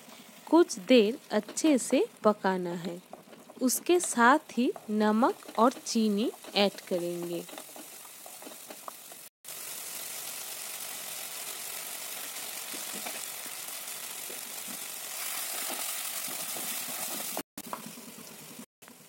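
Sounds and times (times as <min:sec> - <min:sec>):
paste sizzling in oil: 0:00.0 - 0:18.7.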